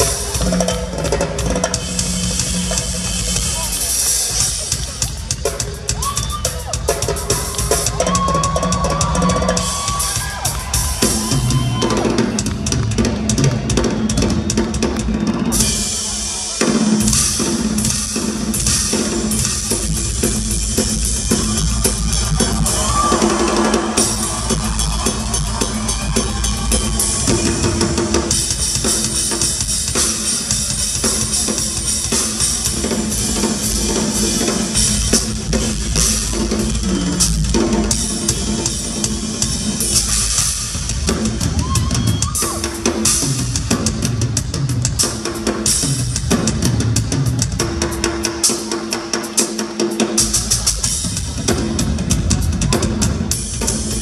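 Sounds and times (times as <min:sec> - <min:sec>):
drum solo: 0:00.0 - 0:54.0.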